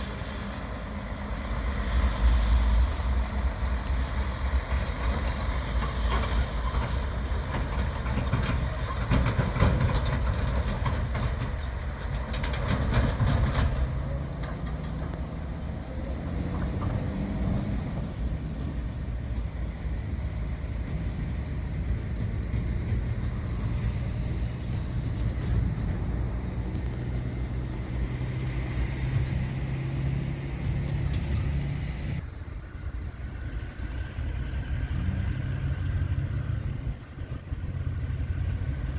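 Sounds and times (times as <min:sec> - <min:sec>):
locomotive engine drone: 0:00.0 - 0:38.9
train rattling and clatter: 0:00.0 - 0:38.9.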